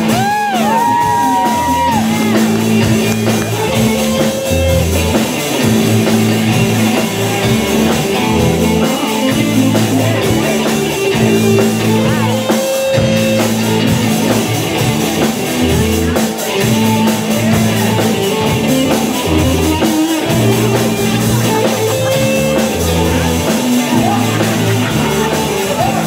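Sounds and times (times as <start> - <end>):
punk rock music: 0.0 - 26.0.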